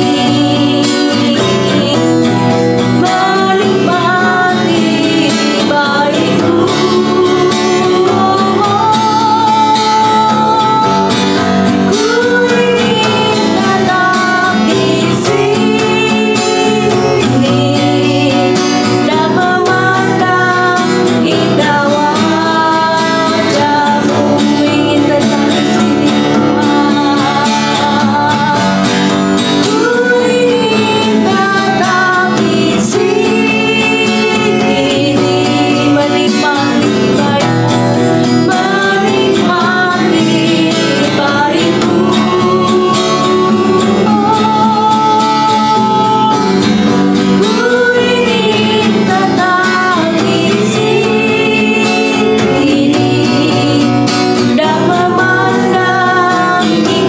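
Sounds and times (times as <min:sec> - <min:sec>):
guitar accompaniment: 0:00.0 - 0:57.0
person singing: 0:00.0 - 0:57.0.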